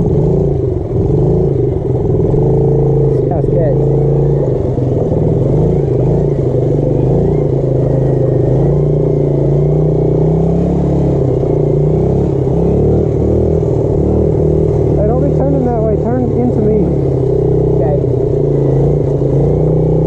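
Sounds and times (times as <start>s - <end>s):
motorbike engine running: 0.0s - 20.0s.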